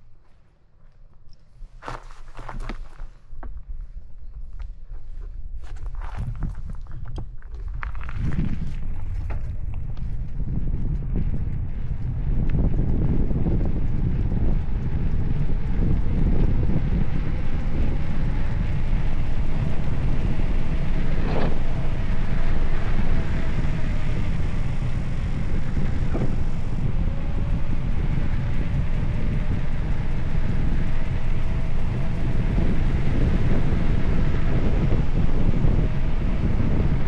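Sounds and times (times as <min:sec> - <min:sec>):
wind buffeting microphone: 0:01.5 - 0:37.0.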